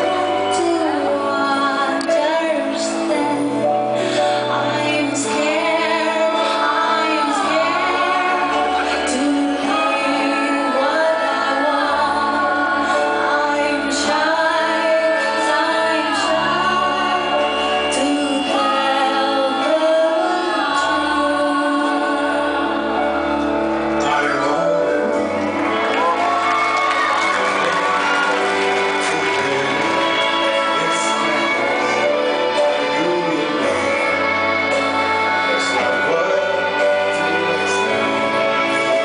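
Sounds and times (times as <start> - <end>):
woman singing into microphone: 0.0 - 23.3, 30.0 - 39.0
live band music: 0.0 - 39.0.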